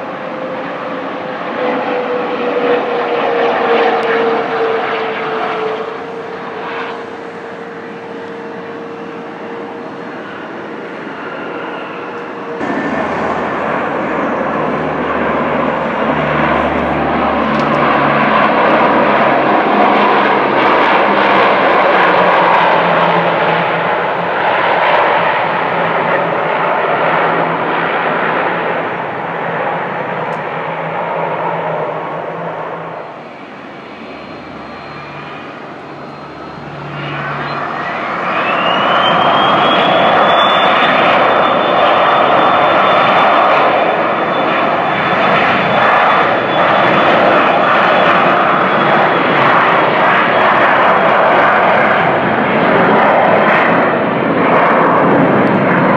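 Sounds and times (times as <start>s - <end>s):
jet engine whine: 0.0s - 55.9s
turboprop engines droning: 0.0s - 55.9s.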